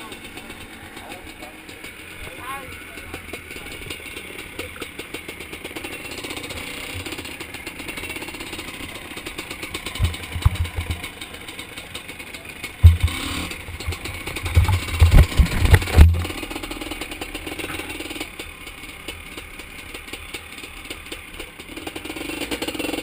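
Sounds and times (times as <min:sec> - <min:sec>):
two-stroke engine running: 0:00.0 - 0:23.0.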